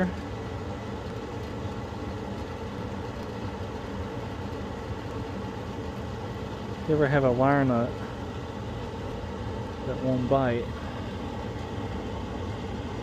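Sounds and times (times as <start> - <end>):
furnace motor hum: 0.0 - 13.0.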